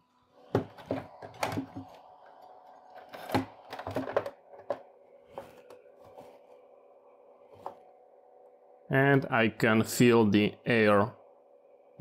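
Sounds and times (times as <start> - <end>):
cooling fan humming: 0.0 - 12.0.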